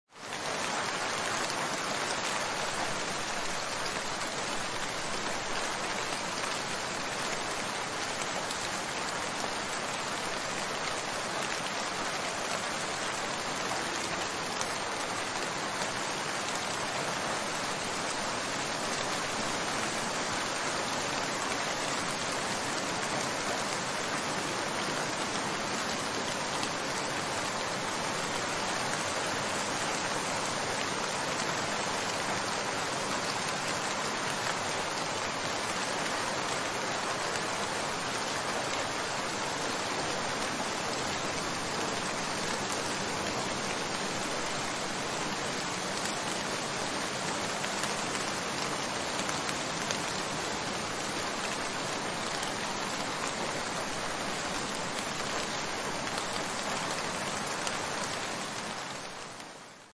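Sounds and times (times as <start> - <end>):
steady rain falling: 0.1 - 59.9.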